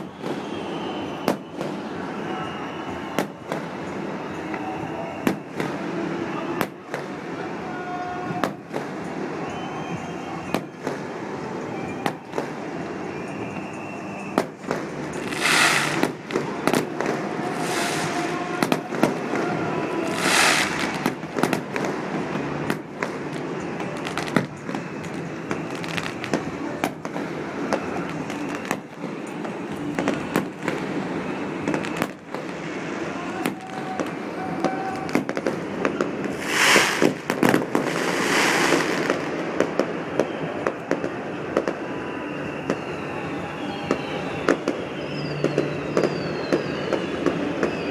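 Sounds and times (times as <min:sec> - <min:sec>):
fireworks bangs: 0:00.0 - 0:47.9
fireworks hissing bursts: 0:00.0 - 0:47.9.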